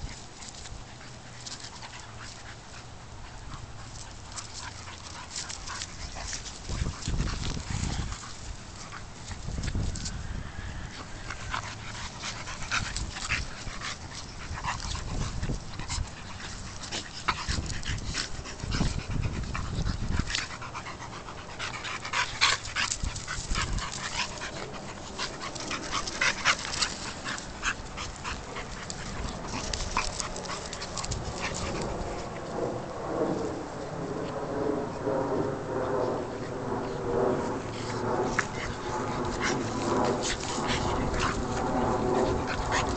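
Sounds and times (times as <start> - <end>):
dogs panting: 0.0 - 33.6, 34.2 - 42.9
dogs scuffling: 0.0 - 33.7, 37.4 - 42.9.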